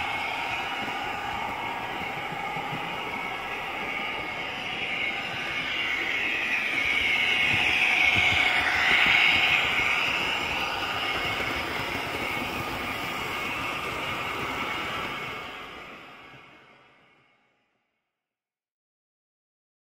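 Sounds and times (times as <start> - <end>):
wheels running on track: 0.0 - 16.2.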